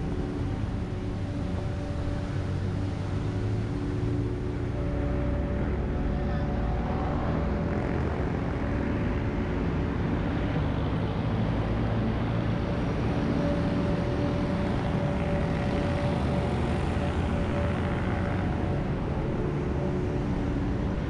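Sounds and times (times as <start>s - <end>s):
passing vehicle engine drone: 0.0s - 21.0s.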